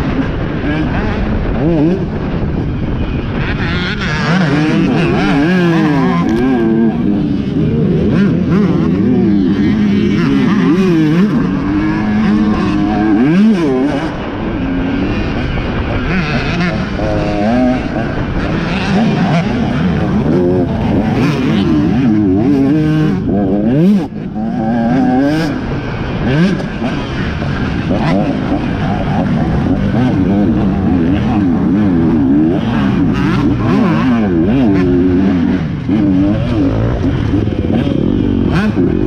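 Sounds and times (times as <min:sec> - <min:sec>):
motorcycles revving hard: 0:00.0 - 0:39.0.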